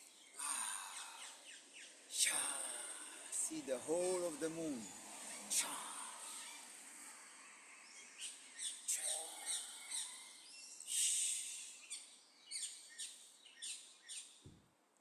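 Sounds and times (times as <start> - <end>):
birds chirping: 0.0 - 14.5.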